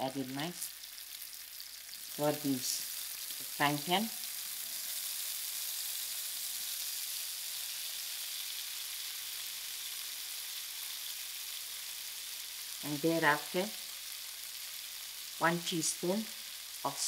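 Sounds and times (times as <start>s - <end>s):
beans sizzling in hot oil: 0.0s - 17.0s.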